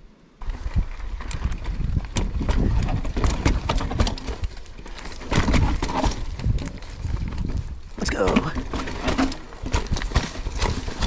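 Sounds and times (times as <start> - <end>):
bike rattling over rocks: 0.4 - 11.0.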